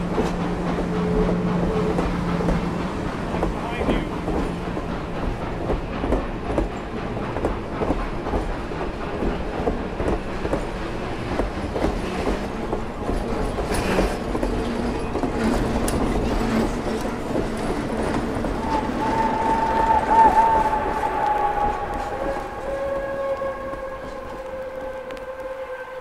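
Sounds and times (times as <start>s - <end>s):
train wheels clacking over rail joints: 0.0s - 25.6s
train rumble: 0.0s - 26.0s.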